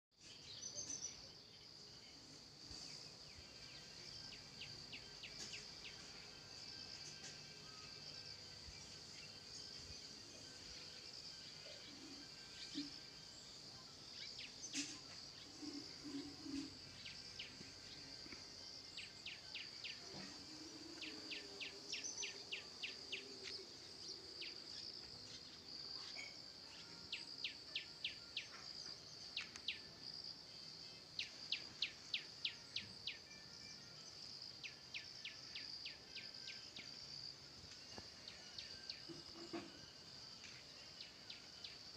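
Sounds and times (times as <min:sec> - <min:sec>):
high-pitched insect drone: 0:02.2 - 0:41.9.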